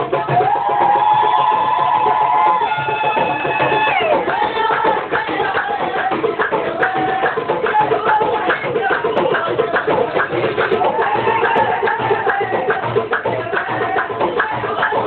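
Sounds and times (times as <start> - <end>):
hand drums beating: 0.0 - 15.0.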